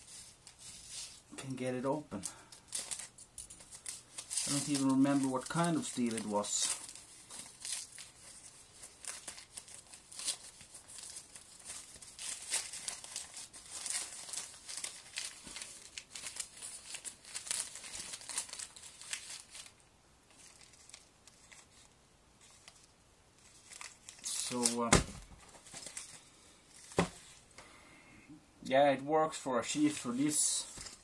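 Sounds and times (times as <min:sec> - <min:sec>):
packaging crinkling and tearing: 0:02.0 - 0:27.4, 0:29.8 - 0:31.0.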